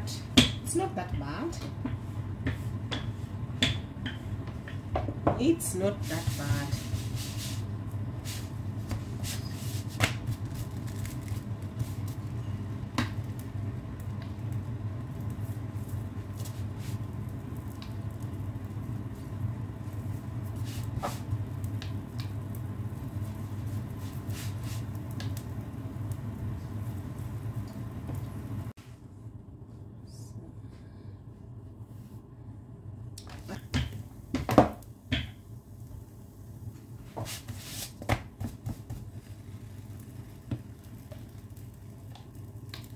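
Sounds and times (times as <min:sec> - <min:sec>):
low kitchen hum: 0:00.0 - 0:42.9.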